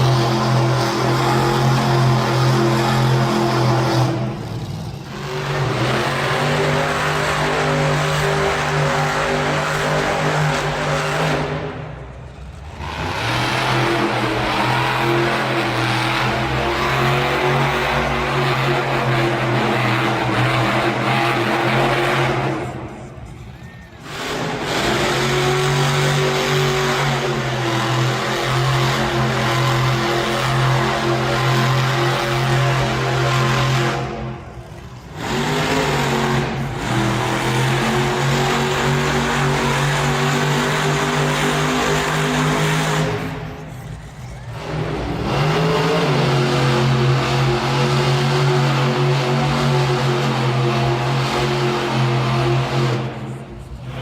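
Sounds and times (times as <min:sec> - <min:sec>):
truck engine revving hard: 0:00.0 - 0:54.0.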